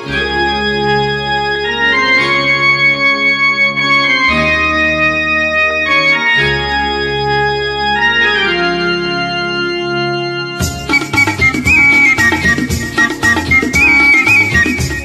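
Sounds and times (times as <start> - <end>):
organ-like keyboard chords: 0.0 - 15.0.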